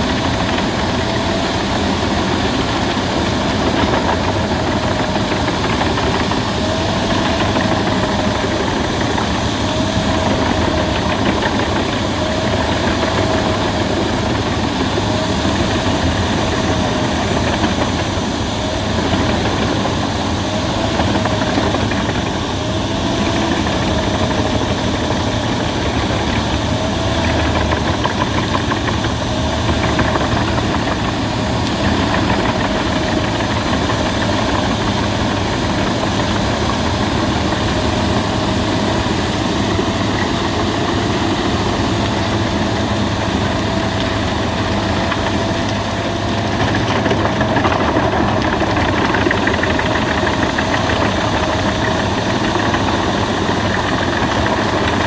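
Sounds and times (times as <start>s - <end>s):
wood chipper chipping branches: 0.0s - 55.0s.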